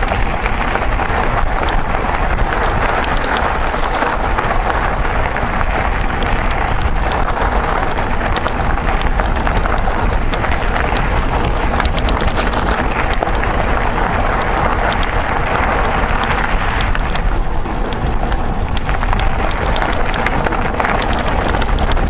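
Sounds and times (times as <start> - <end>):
stones and bike rattling: 0.0 - 22.0
tyres on loose gravel: 0.0 - 22.0
wind buffeting microphone: 0.0 - 22.0.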